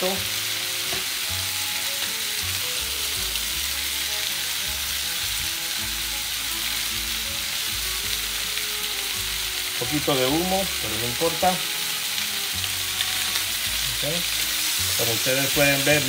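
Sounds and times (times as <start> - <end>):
chicken sizzling in a pan: 0.0 - 16.0
soft background music: 0.0 - 16.0.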